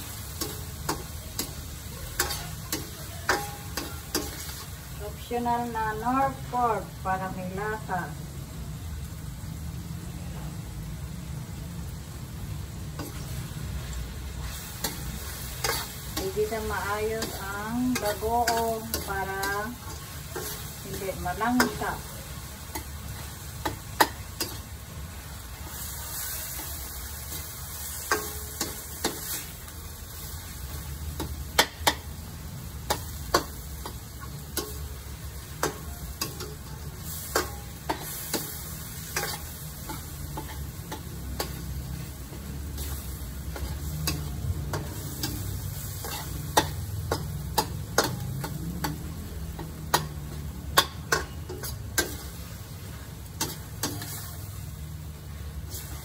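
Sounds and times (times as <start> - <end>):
metal spatula scraping wok: 0.0 - 6.4, 13.0 - 56.0
faint sizzle: 0.0 - 56.0.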